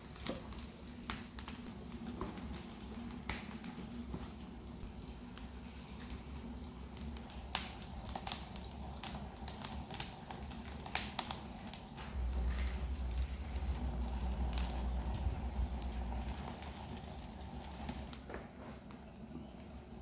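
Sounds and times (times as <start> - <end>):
low rumble of fire: 0.0 - 20.0
wood fire crackling: 0.0 - 20.0.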